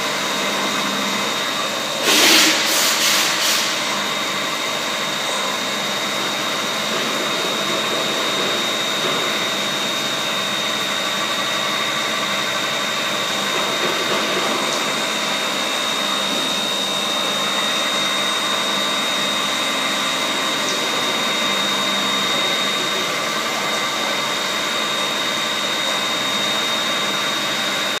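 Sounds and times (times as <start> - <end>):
high machine whine: 0.0 - 28.0
milling machine cutting metal: 0.0 - 28.0.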